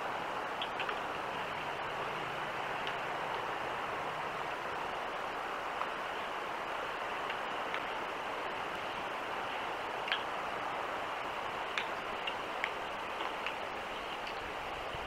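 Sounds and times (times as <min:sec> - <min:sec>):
trickling water: 0:00.0 - 0:15.0
dripping water ticks: 0:00.3 - 0:15.0.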